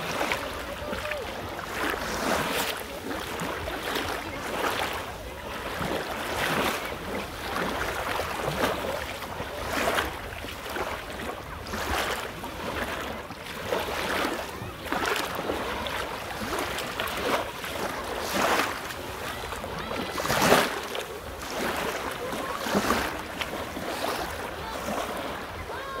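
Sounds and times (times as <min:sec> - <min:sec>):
waves washing over shingle: 0:00.0 - 0:26.0.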